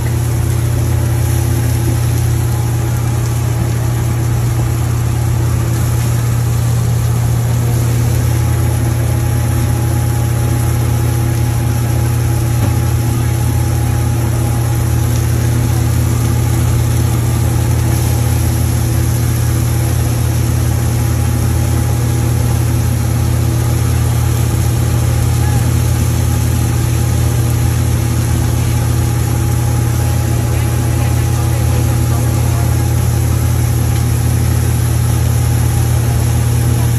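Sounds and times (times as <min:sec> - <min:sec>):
gas wok burner roaring: 0:00.0 - 0:36.9.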